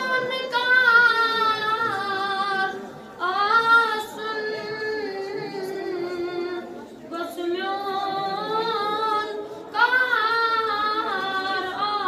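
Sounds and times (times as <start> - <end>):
boy singing unaccompanied: 0.0 - 12.0.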